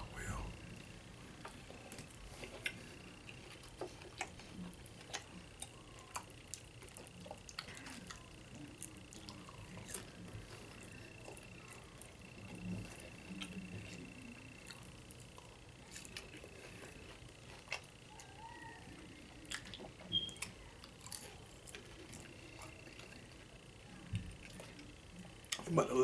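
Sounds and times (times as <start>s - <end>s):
person chewing crunchy chips: 1.4s - 18.6s, 19.3s - 23.4s.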